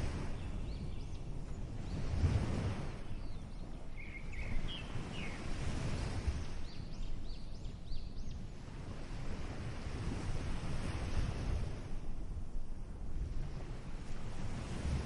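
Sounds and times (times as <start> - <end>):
ocean waves: 0.0 - 6.9, 8.5 - 15.0
wind: 0.0 - 15.0.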